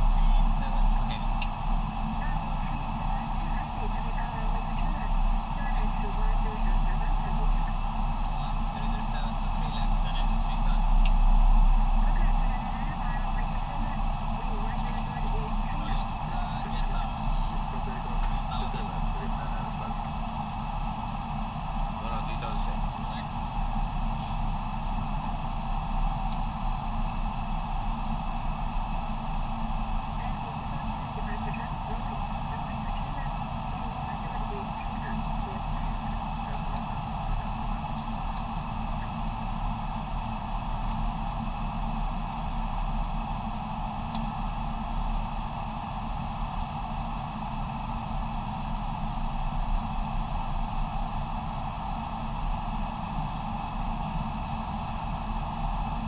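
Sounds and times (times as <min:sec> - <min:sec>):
cockpit airflow and hum: 0:00.0 - 0:56.0.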